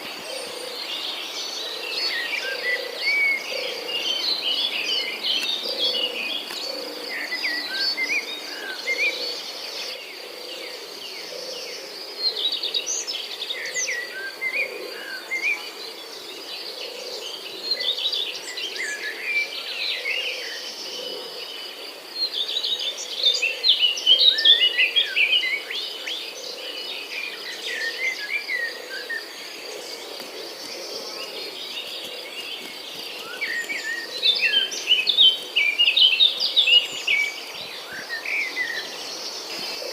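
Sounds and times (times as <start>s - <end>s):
birds chirping: 0.0s - 11.6s, 12.5s - 39.9s
insect drone: 0.0s - 39.9s.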